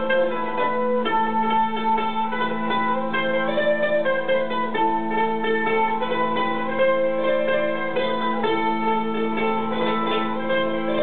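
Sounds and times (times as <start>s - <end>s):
plucked lute melody with drone: 0.0s - 11.0s.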